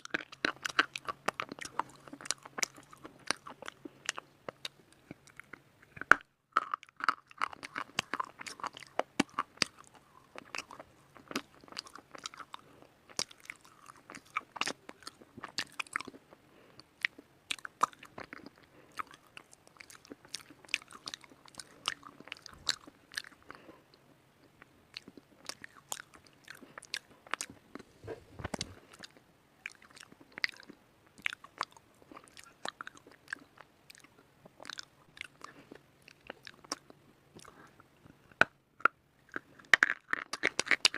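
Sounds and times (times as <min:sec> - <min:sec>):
chewing crunchy slate: 0:00.0 - 0:40.9.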